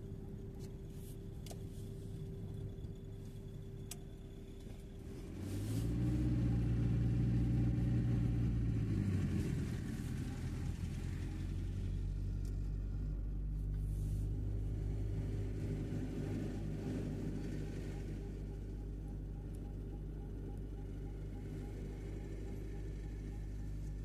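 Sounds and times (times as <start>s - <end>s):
van engine and road noise: 0.0s - 24.0s.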